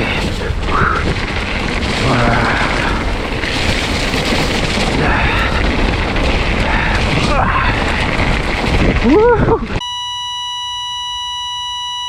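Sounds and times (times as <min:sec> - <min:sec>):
wind rushing on microphone: 0:00.0 - 0:09.8
bike trail noise: 0:00.0 - 0:10.4.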